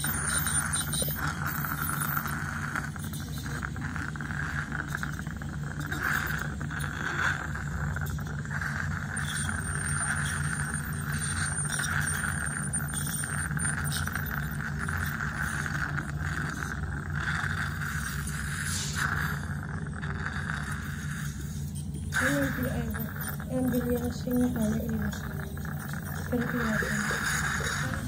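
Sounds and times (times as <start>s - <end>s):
dental suction hiss and hum: 0.0s - 28.0s
faint high whine: 0.0s - 28.0s
ultrasonic dental scaler: 0.0s - 28.0s.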